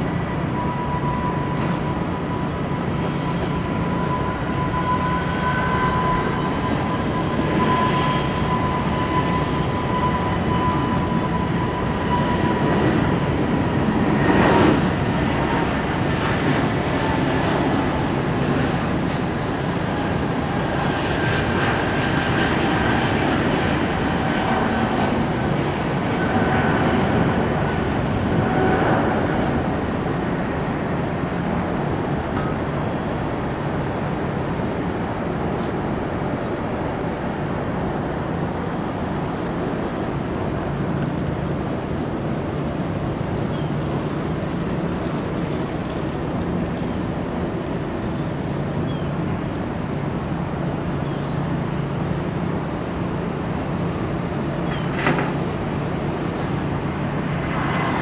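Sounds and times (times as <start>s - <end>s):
jet engine rushing with low hum: 0.0s - 58.0s.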